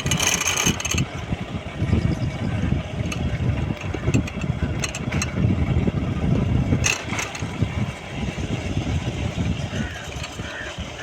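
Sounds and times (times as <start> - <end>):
scooter engine running: 0.0 - 11.0
wind and road noise: 0.0 - 11.0.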